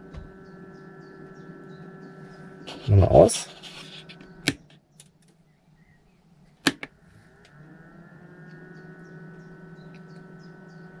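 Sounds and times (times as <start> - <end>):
fan whining and humming: 0.0 - 11.0.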